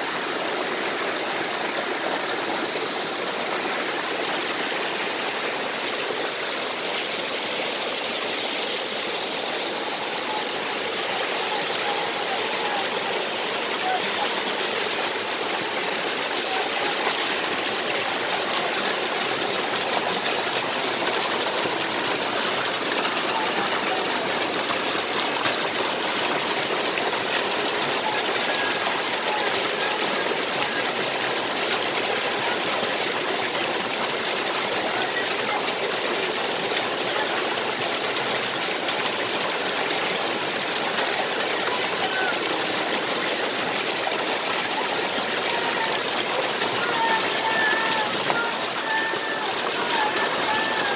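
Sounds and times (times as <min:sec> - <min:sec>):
stream water flowing and splashing: 0:00.0 - 0:50.9.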